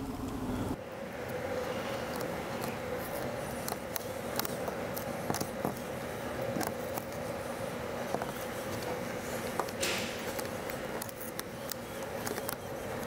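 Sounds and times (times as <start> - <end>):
steady low hum: 0.0 - 13.0
vinyl film crackling: 2.0 - 13.0.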